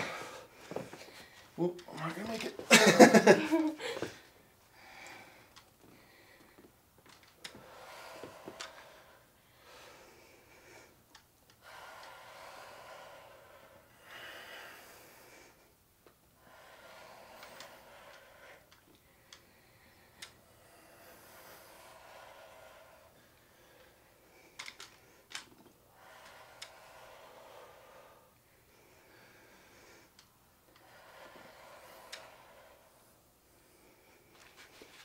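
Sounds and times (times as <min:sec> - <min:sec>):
people breathing heavily: 0:00.0 - 0:35.0.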